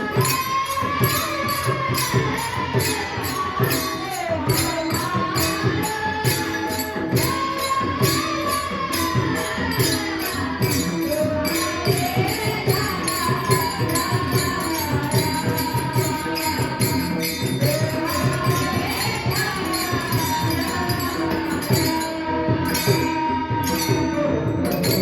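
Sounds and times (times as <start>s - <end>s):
jingling hand cymbals: 0.0s - 25.0s
person singing: 0.0s - 25.0s.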